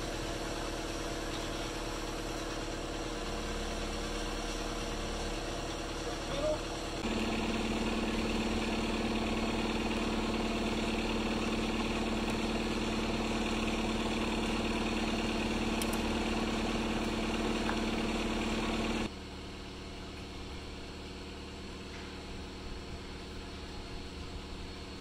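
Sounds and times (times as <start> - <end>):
excavator diesel engine idling: 0.0 - 25.0.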